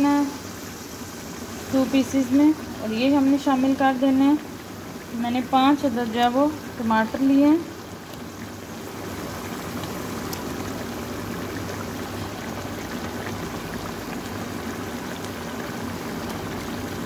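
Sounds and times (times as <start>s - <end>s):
minced meat bubbling in a pan: 0.0s - 17.0s.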